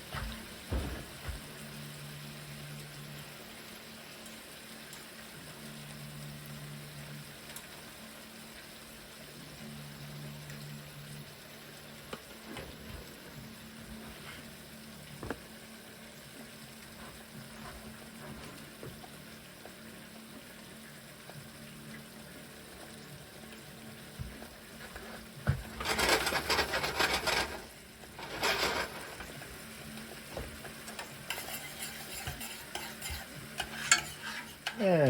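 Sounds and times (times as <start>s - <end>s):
faint steady hiss: 0.0s - 35.0s
food sizzling in a pan: 0.0s - 35.0s.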